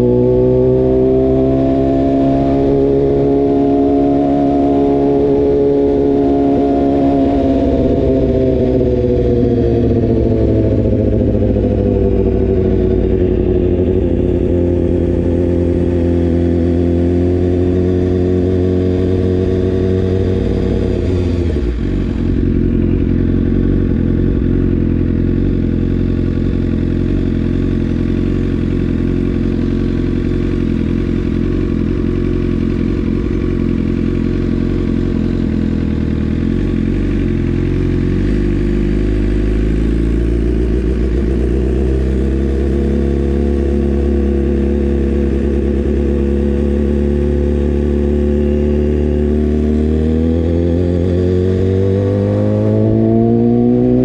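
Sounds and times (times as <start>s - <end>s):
motorcycle engine at low revs: 0.0s - 54.0s.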